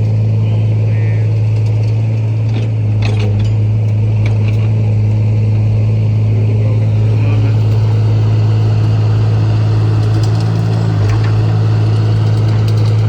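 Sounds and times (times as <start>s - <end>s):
motor vehicle droning: 0.0s - 13.0s.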